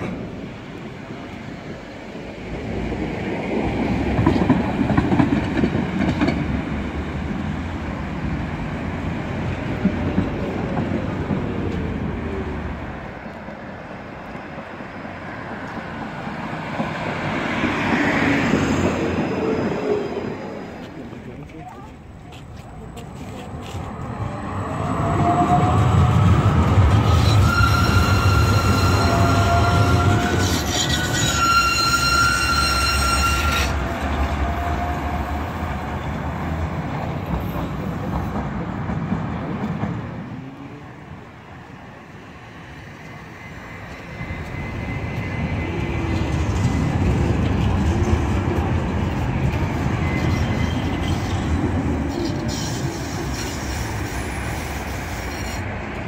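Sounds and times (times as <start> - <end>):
tram high whine: 0.0 - 56.0
tram rumbling on rails: 0.0 - 56.0.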